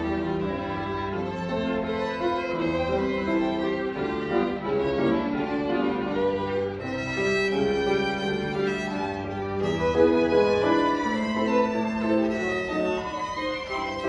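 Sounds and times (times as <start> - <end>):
grand piano: 0.0 - 14.0
violins bowing: 0.0 - 14.0.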